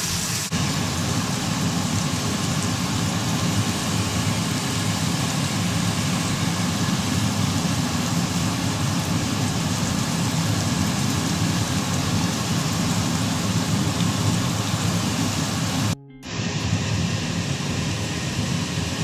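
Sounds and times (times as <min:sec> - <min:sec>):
beef sizzling in a pan: 0:00.0 - 0:16.0.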